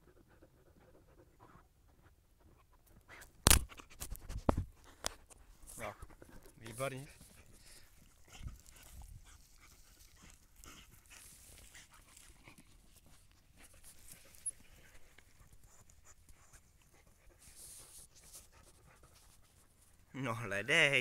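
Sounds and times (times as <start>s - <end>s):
dog panting: 0.0s - 4.0s, 4.7s - 20.5s
dog paws scraping soil: 3.1s - 21.0s.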